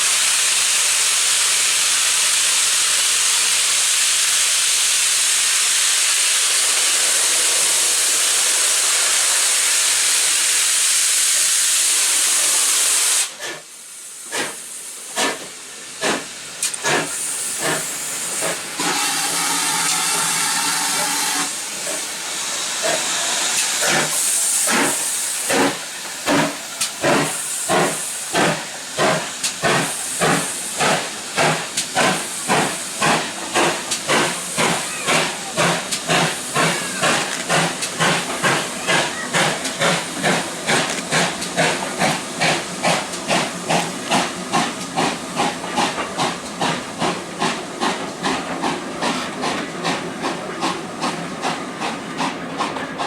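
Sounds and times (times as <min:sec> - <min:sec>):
steam hissing: 0:00.0 - 0:53.0
steam locomotive exhaust chuffs: 0:00.0 - 0:53.0.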